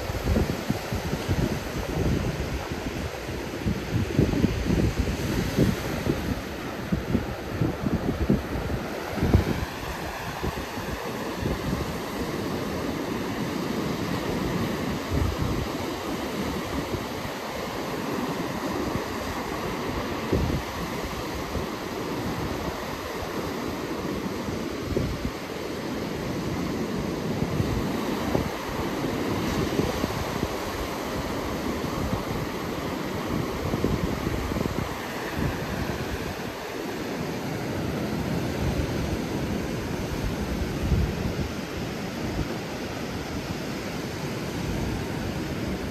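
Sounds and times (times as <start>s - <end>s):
wind buffeting microphone: 0.0s - 43.6s
surf breaking and washing in: 0.0s - 45.9s.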